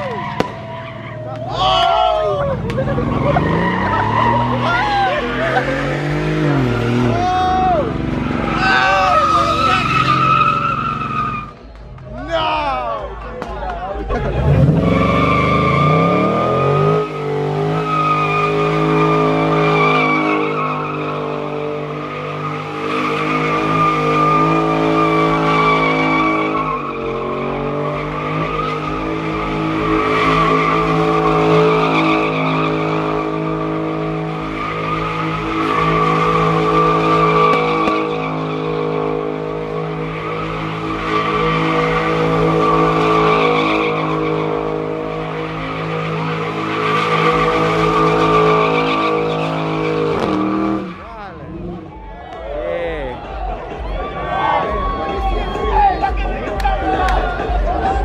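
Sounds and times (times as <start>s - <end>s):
tyres squealing: 0.0s - 11.6s, 14.1s - 51.8s
car engine revving: 0.0s - 12.2s, 13.4s - 58.0s.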